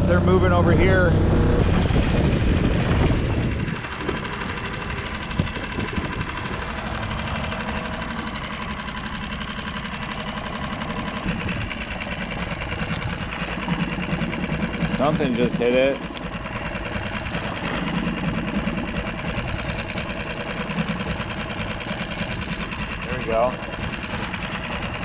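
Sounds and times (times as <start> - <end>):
outboard motor idling: 0.0 - 25.0.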